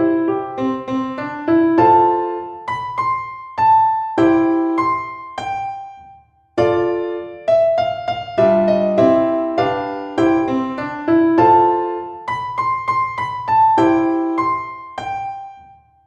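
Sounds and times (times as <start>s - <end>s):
piano music: 0.0s - 15.8s.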